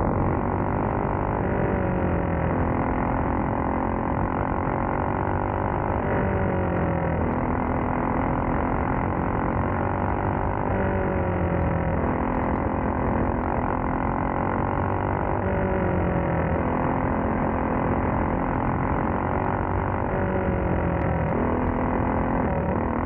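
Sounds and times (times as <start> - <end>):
racing kart engine revving: 0.0 - 23.0.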